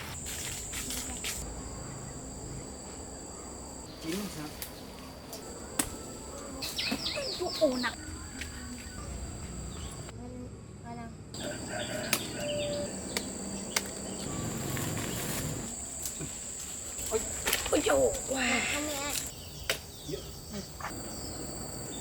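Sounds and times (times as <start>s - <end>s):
insects chirping: 0.0s - 10.2s, 11.3s - 22.0s.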